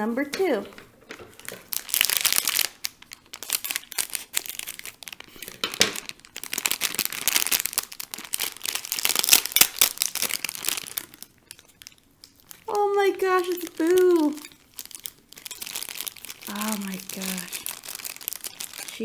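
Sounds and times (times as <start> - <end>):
wrapper crinkling and tearing: 0.0 - 19.0.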